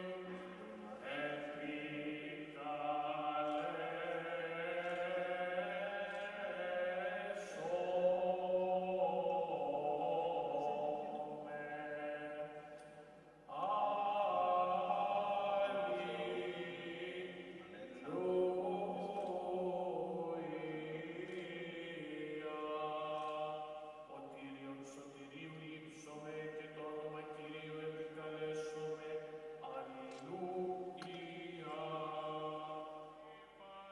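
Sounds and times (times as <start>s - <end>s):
liturgical chant in long notes: 0.0s - 33.9s.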